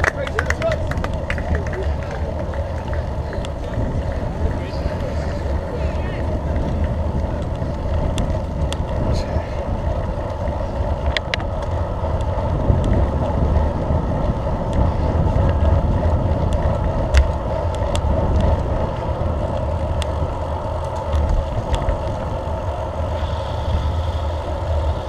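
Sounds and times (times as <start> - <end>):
bicycle road noise: 0.0 - 25.0
wind over microphone: 0.0 - 25.0.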